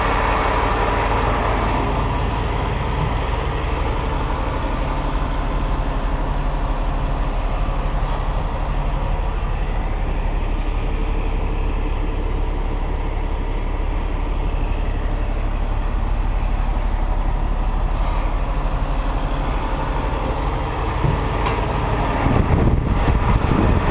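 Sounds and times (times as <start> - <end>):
diesel engine running steadily: 0.0 - 23.9.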